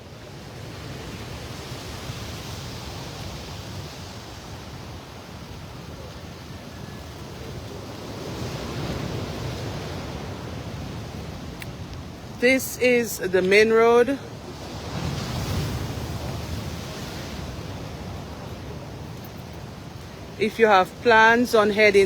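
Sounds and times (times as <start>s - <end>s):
sea surf washing ashore: 0.0s - 22.0s.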